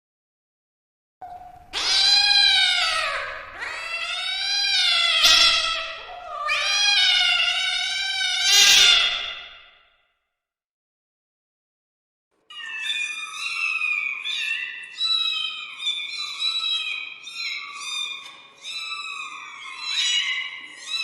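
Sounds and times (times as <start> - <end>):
cat meowing: 1.2 - 9.6, 12.5 - 21.0.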